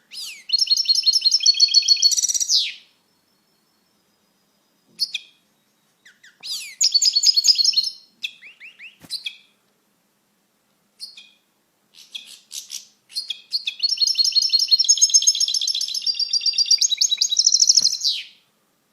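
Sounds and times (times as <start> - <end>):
goldfinch twittering song: 0.1 - 9.5, 11.0 - 11.4, 12.0 - 18.4.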